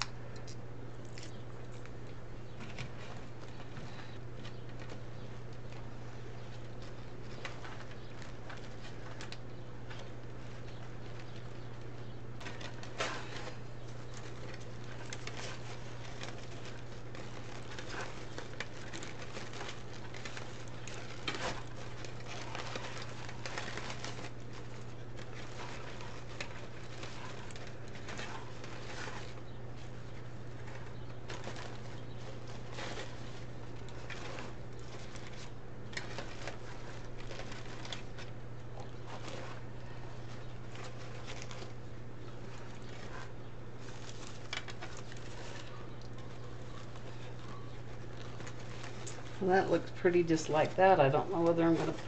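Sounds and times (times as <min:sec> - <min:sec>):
steady low hum: 0:00.0 - 0:52.0
plastic mesh rustling: 0:01.0 - 0:52.0.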